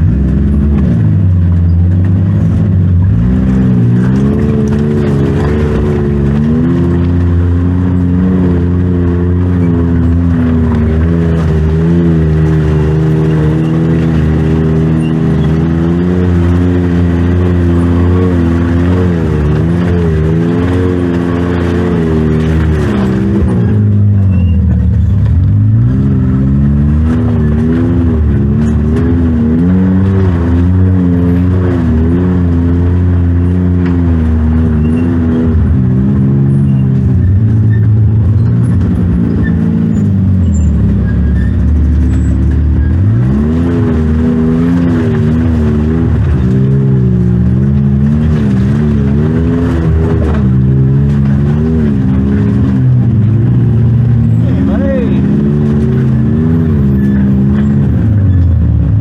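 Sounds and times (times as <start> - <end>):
utility vehicle engine revving: 0.0 - 59.0.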